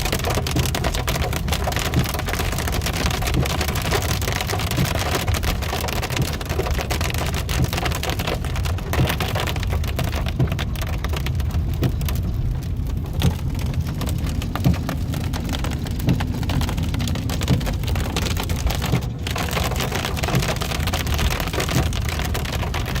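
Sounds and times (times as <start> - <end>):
engine and road rumble: 0.0 - 23.0
hailstones pelting a car: 0.0 - 23.0.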